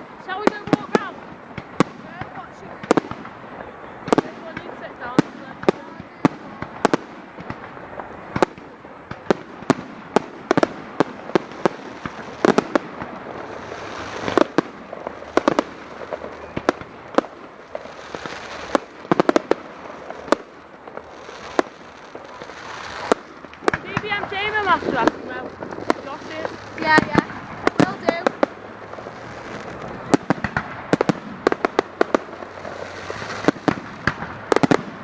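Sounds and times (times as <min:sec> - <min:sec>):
firework bangs: 0:00.0 - 0:35.0
fireworks crackle and hiss: 0:00.0 - 0:35.0.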